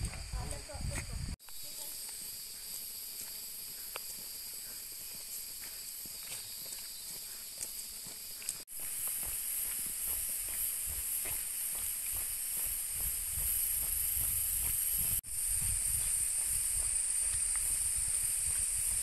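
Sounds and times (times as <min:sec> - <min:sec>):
footsteps on trail: 0:00.0 - 0:19.0
rainforest insects droning: 0:00.0 - 0:19.0.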